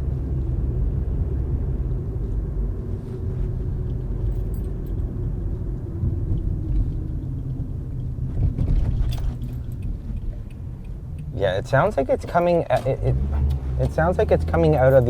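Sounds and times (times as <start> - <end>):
road rumble inside car cabin: 0.0 - 15.0
suspension clunks and rattles: 1.0 - 15.0.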